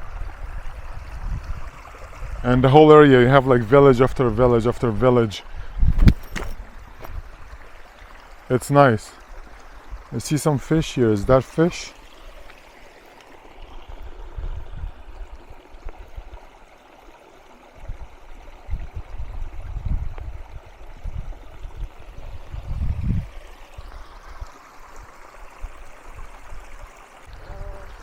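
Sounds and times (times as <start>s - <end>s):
creek water babbling over stones: 0.0s - 28.0s.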